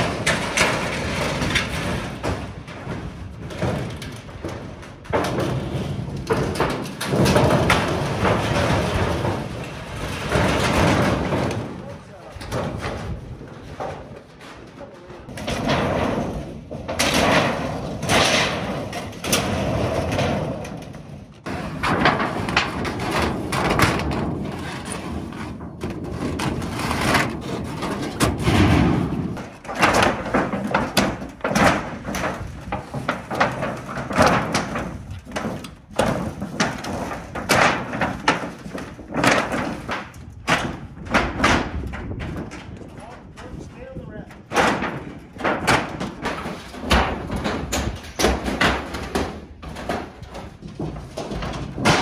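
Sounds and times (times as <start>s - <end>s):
metal roofing dragged: 0.0s - 52.0s
sheet metal banging and rattling: 0.0s - 52.0s.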